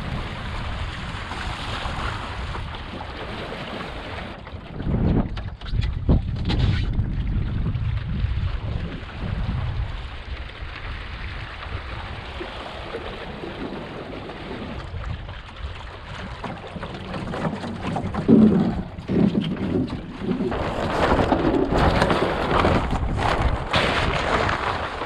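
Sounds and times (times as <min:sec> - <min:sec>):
water splashing against hull: 0:00.0 - 0:25.0
wind buffeting microphone: 0:00.0 - 0:25.0.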